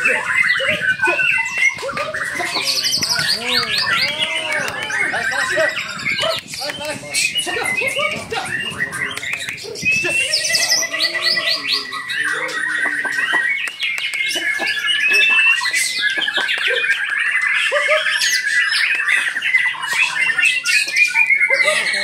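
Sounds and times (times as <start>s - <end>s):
songbirds singing with trills: 0.0s - 22.0s.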